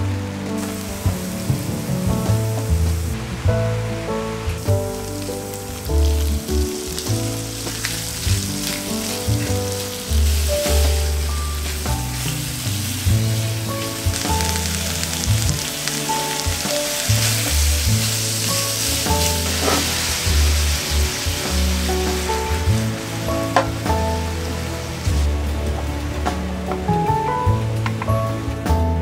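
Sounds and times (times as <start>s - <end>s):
background music with bass line: 0.0s - 29.0s
prawns sizzling in oil: 0.5s - 3.2s, 3.8s - 26.9s.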